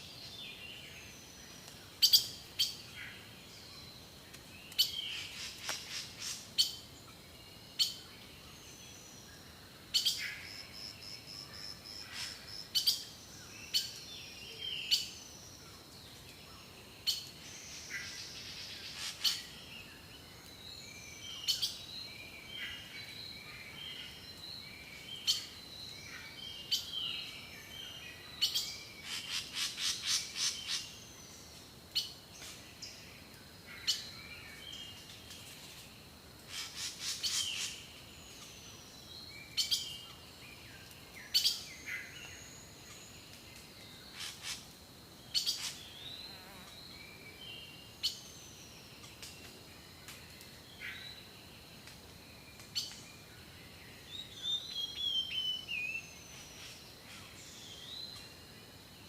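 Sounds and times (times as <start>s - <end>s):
songbirds calling and singing: 0.0s - 59.0s.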